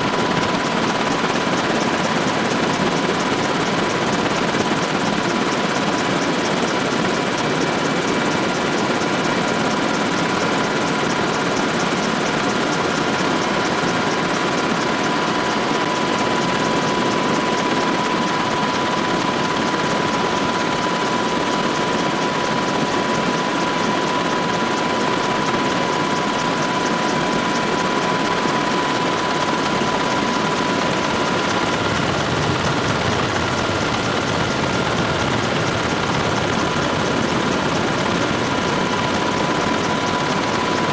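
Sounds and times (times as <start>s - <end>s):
helicopter rotor and engine noise: 0.0s - 40.9s.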